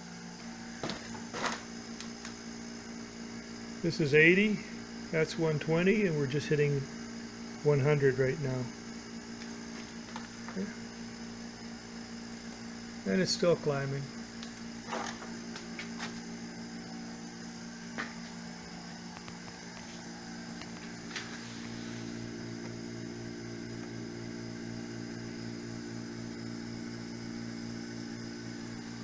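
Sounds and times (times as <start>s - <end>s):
electric vacuum pump humming: 0.0s - 29.0s.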